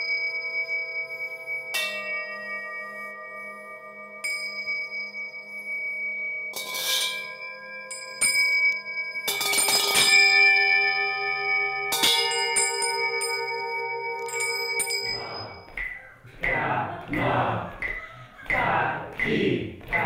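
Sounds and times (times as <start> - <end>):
singing bowls and bells ringing: 0.0 - 16.2.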